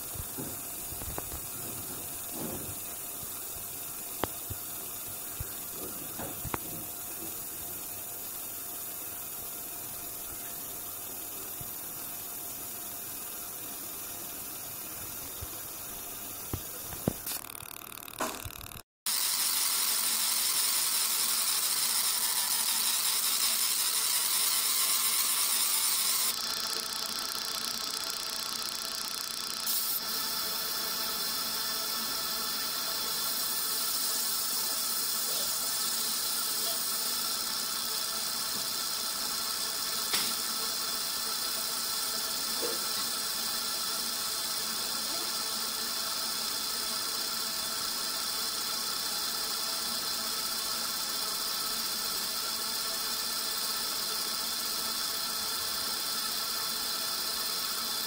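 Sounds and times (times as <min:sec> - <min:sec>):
laser marker hiss and whine: 0:00.0 - 0:58.0.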